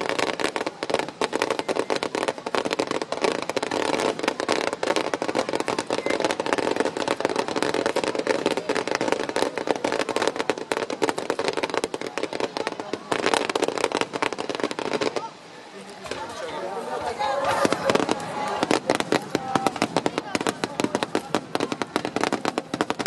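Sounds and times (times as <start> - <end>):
fireworks popping and crackling: 0.0 - 23.0.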